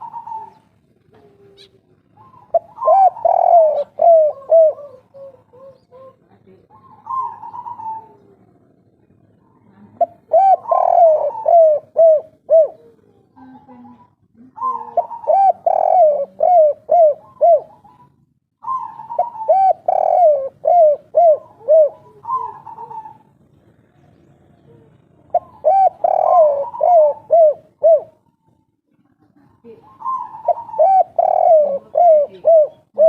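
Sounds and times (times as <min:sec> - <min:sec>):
dove cooing: 0:00.0 - 0:28.7, 0:29.5 - 0:33.0.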